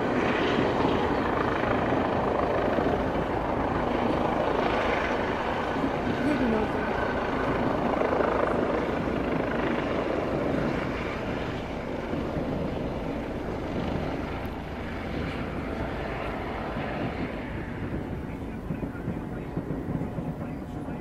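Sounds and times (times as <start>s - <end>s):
helicopter rotor drone: 0.0s - 21.0s.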